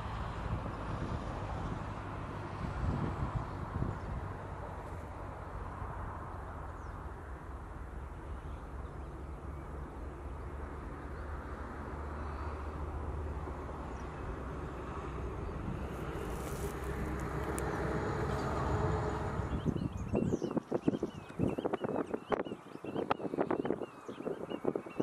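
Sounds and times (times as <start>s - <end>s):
low outdoor rumble: 0.0s - 20.4s.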